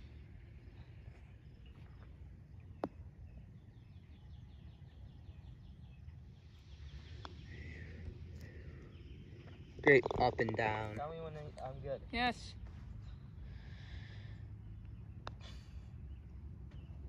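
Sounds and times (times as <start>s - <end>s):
bird chirp: 0.0s - 12.2s, 13.0s - 17.0s.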